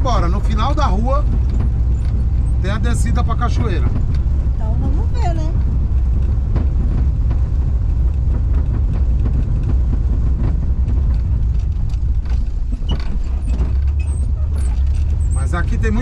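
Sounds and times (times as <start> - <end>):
body creaks and rattles: 0.0 - 16.0
van engine and road rumble: 0.0 - 16.0.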